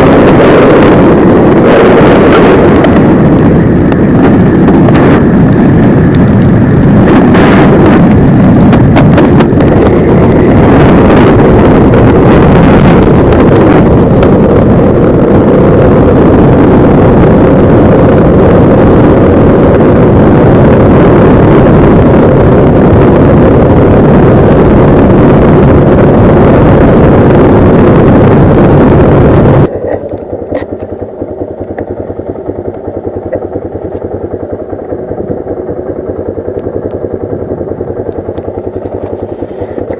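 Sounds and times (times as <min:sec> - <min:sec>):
motorcycle engine riding: 0:00.0 - 0:39.9
wind rushing over microphone: 0:00.0 - 0:39.9.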